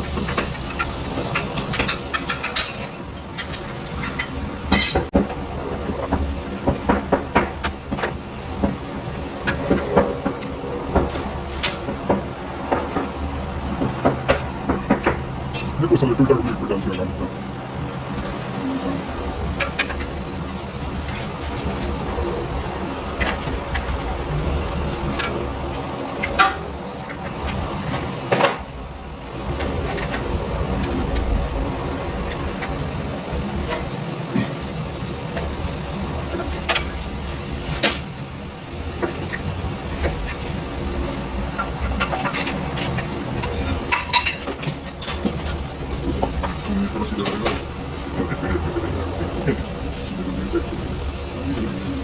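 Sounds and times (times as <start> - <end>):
clicks and knocks of brake work: 0.0 - 15.9, 19.2 - 31.6, 32.2 - 49.8
steady low hum: 0.0 - 52.0.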